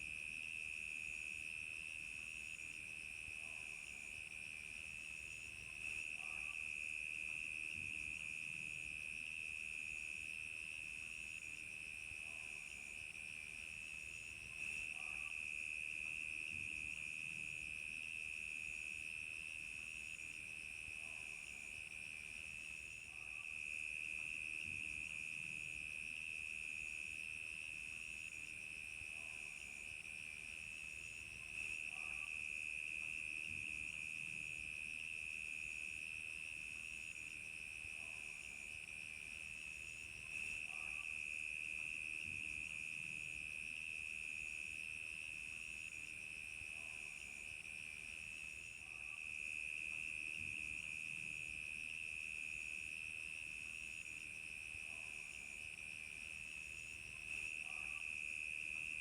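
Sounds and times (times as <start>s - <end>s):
crickets chirping: 0.5s - 59.0s.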